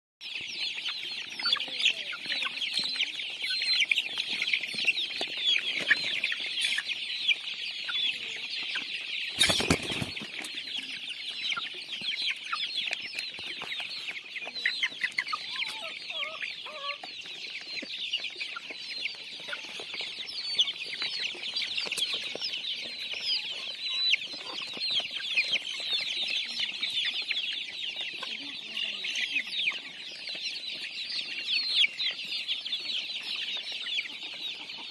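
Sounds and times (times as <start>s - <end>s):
chicken clucking: 0.2s - 34.9s
chicks cheeping: 0.2s - 34.9s.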